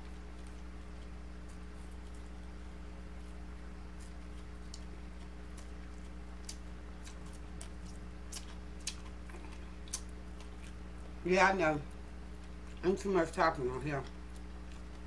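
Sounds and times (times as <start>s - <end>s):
chewing crunchy food: 0.0s - 15.0s
low electrical hum: 0.0s - 15.0s.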